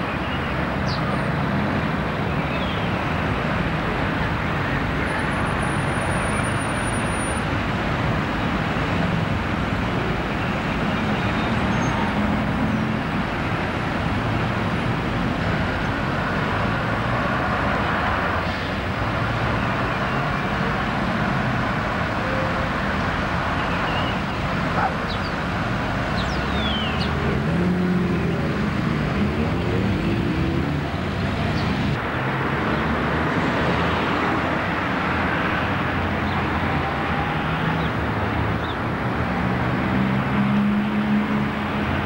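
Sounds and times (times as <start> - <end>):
bus engine drone: 0.0 - 42.0
road traffic hum: 0.0 - 42.0.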